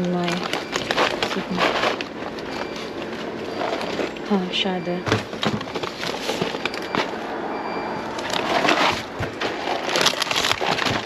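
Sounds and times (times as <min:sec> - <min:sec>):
packaging rustling and knocking: 0:00.0 - 0:04.2, 0:05.0 - 0:07.2, 0:08.1 - 0:11.0.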